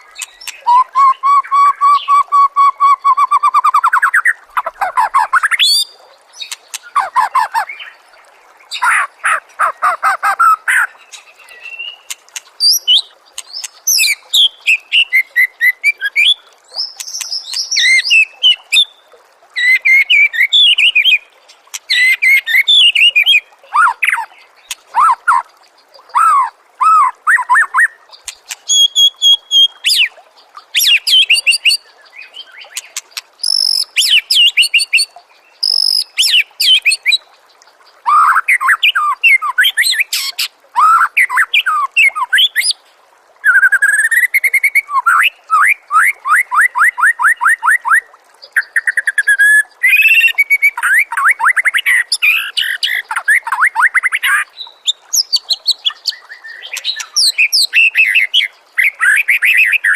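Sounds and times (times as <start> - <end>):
songbird singing trills and whistles: 0.0 - 8.0, 10.4 - 19.0, 26.0 - 30.1, 30.7 - 37.2, 38.0 - 42.8, 43.4 - 59.9.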